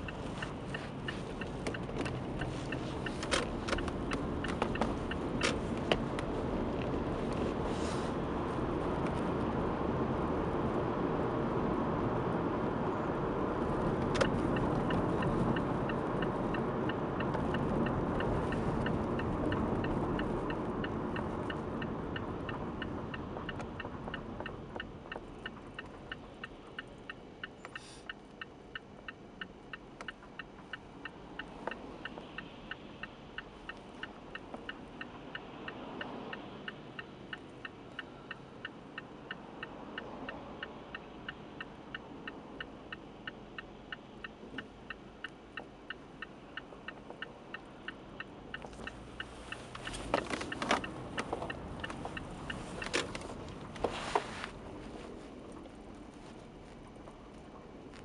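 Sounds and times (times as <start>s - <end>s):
road noise: 0.0s - 58.0s
turn signal ticking: 0.0s - 58.0s.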